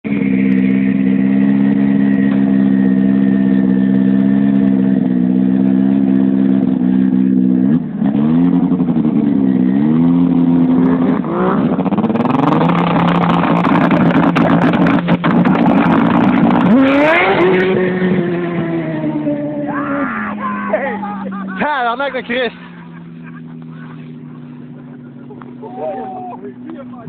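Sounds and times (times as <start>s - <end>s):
snowmobile engine revving: 0.1s - 27.0s.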